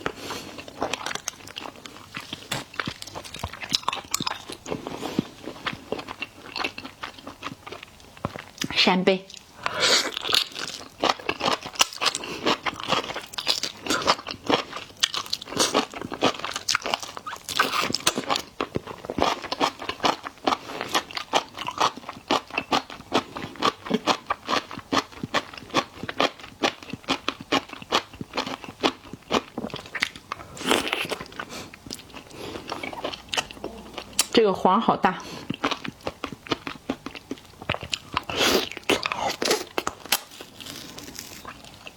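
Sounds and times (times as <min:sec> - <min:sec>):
chewing crunchy food: 0:00.0 - 0:34.4, 0:35.0 - 0:41.9.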